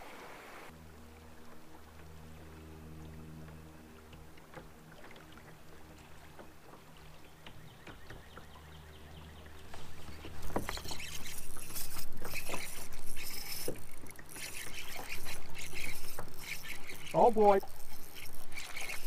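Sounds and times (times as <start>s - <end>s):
water sloshing against hull: 0.7s - 19.0s.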